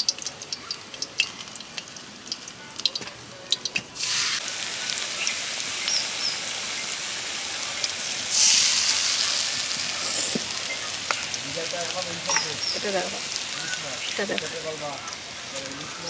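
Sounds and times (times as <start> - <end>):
fritters sizzling in hot oil: 0.0 - 16.0.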